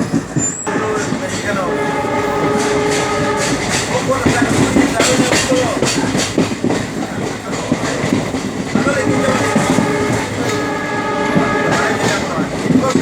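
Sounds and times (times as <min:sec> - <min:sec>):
train wheels clacking on rails: 0:00.0 - 0:13.0.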